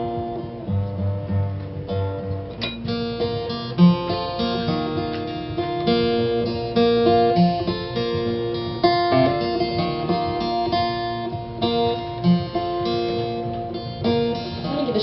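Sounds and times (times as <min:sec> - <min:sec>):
strummed string chords: 0:00.0 - 0:15.0.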